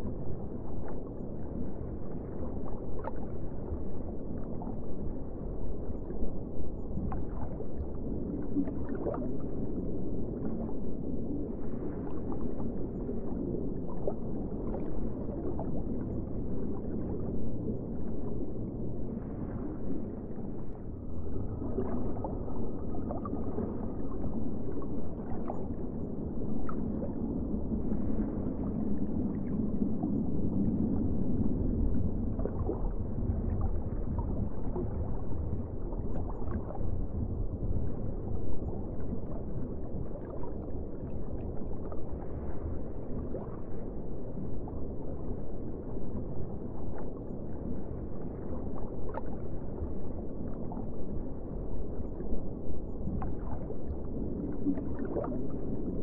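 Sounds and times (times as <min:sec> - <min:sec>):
bubbling and gurgling: 0:00.0 - 0:56.0
underwater rumble: 0:00.0 - 0:56.0.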